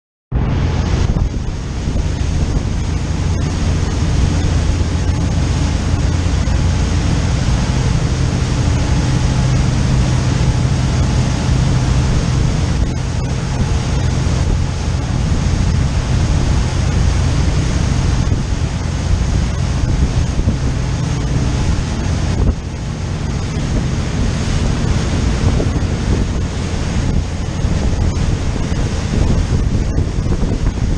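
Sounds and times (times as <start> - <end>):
boat engine drone: 0.3 - 30.9
churning wake rushing: 0.3 - 30.9
wind buffeting microphone: 0.3 - 30.9.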